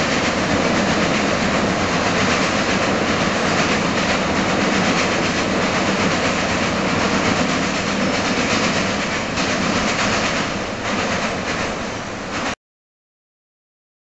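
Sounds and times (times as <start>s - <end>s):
freight train wheels clattering: 0.0s - 12.6s.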